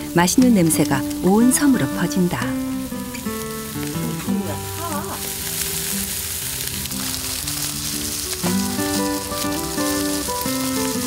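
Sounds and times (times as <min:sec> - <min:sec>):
background music: 0:00.0 - 0:11.0
food sizzling on a grill: 0:00.0 - 0:11.0.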